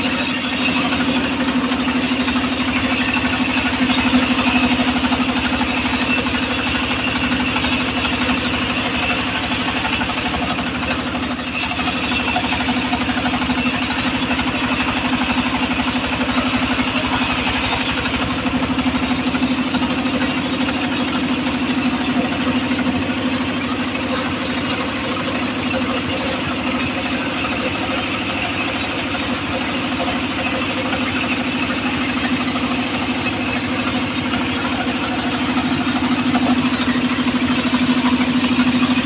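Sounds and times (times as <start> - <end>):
sawmill engine running: 0.0 - 39.0.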